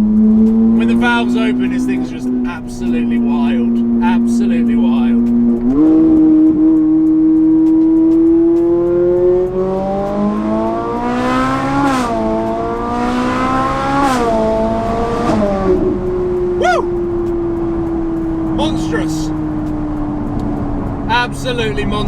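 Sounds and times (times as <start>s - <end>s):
sports car engine accelerating: 0.0s - 22.0s.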